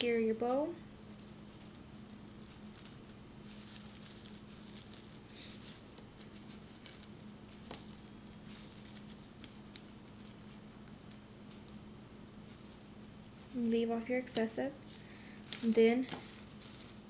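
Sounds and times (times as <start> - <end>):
satin ribbon rustling and crinkling: 0.0 - 17.0
steady low hum: 0.0 - 17.0.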